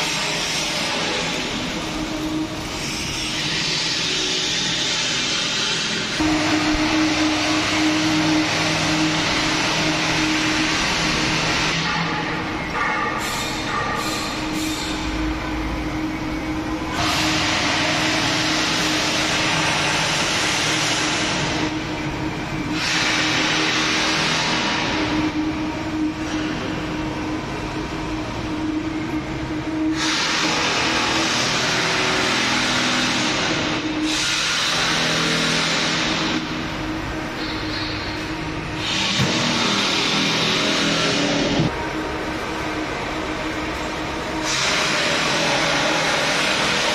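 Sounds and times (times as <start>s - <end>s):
loud rushing noise: 0.0s - 46.9s
machine hum: 0.0s - 46.9s.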